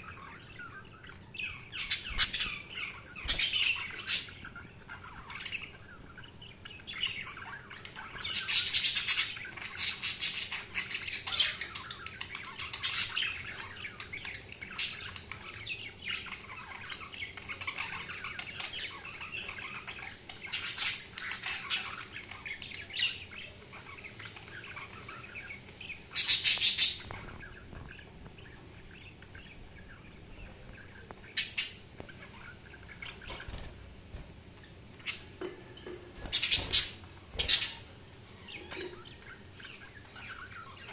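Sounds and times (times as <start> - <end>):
budgerigars chirping and warbling: 0.0 - 40.9.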